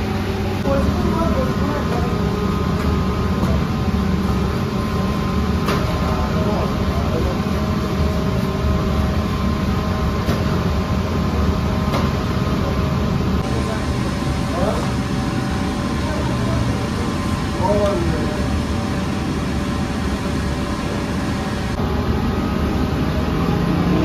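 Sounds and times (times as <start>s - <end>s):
motor hum: 0.0s - 24.0s.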